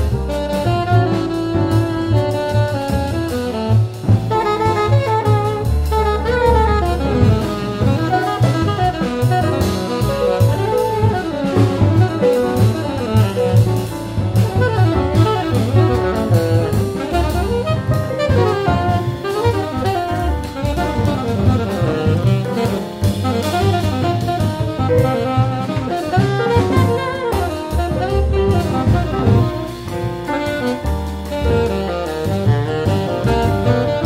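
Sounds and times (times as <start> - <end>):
alto saxophone: 0.0 - 34.0
double bass: 0.0 - 34.0
drum kit: 0.0 - 34.0
piano: 0.0 - 34.0.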